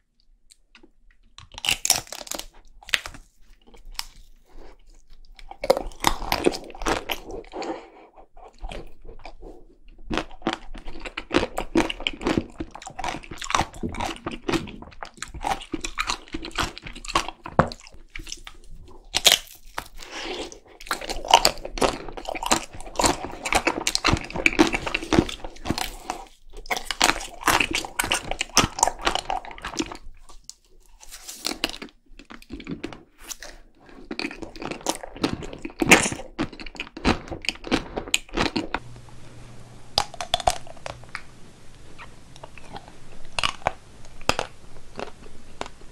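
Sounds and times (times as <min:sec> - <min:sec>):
crunching chocolate ice cream bar: 0:00.5 - 0:38.8, 0:42.0 - 0:45.9.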